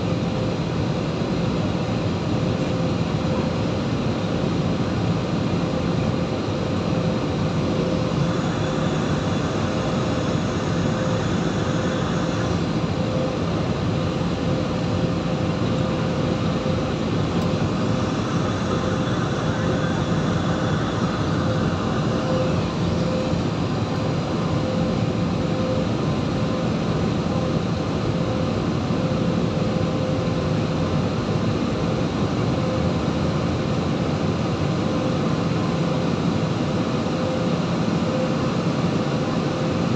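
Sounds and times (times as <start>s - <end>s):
jet airliner cabin noise: 0.0s - 39.9s.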